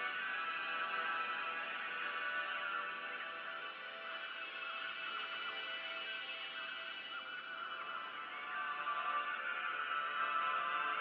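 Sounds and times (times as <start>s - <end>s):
music of sustained tones: 0.0s - 11.0s.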